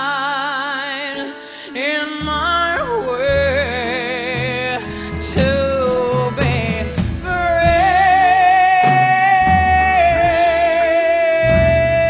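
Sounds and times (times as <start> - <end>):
soft instrumental backing: 0.0 - 12.0
woman singing a slow ballad: 0.0 - 12.0.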